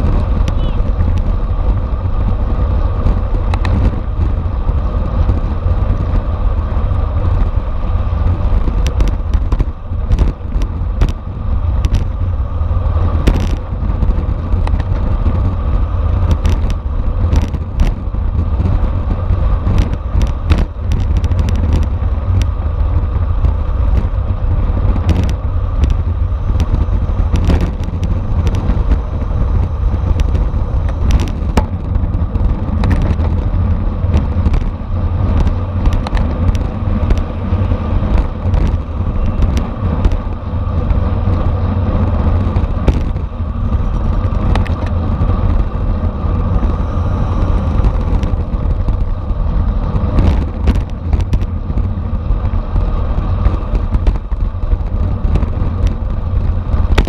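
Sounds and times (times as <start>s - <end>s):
sharp clicks and rattles: 0.0s - 57.0s
wind rushing over microphone: 0.0s - 57.0s.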